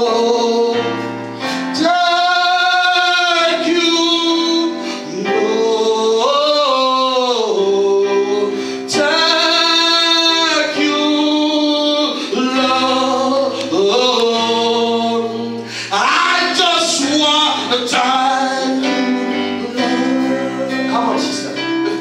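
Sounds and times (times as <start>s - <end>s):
people singing worship song: 0.0s - 22.0s.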